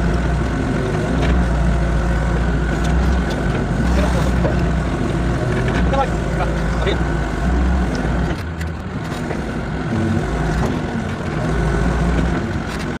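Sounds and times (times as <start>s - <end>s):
excavator engine rumbling: 0.0s - 13.0s.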